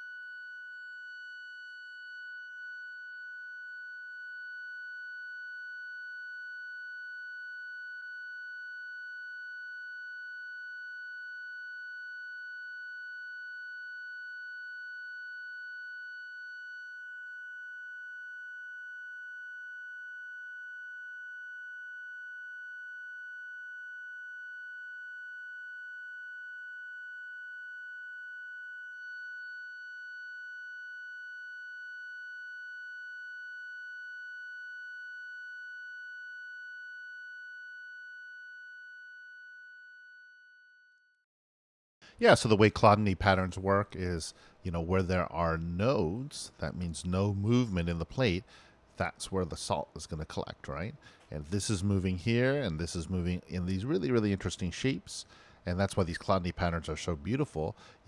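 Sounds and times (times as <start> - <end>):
high-pitched sine tone: 0.0 - 41.2, 42.2 - 48.4, 49.1 - 58.0.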